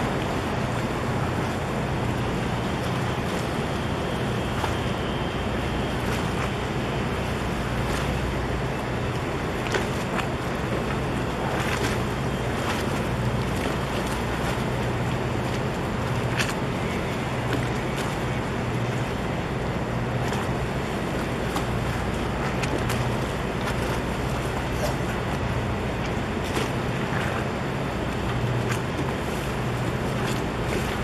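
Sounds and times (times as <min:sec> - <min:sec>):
harbour water wash: 0:00.0 - 0:31.0
ship engine droning: 0:00.0 - 0:31.0
small water splashes: 0:00.0 - 0:31.0.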